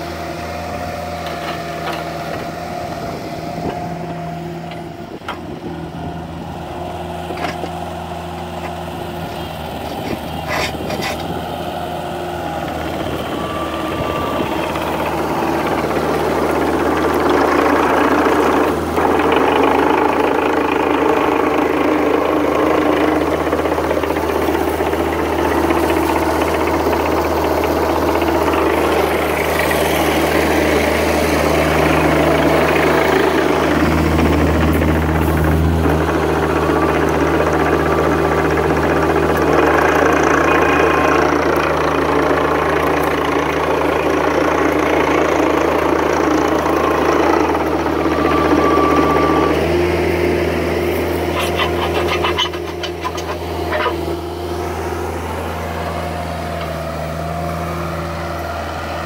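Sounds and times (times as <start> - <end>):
diesel engine clattering: 0.0 - 59.0.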